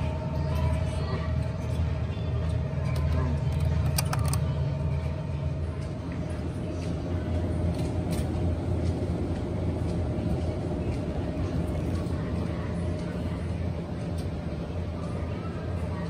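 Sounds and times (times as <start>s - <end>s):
refrigerated display cases humming: 0.0s - 16.0s.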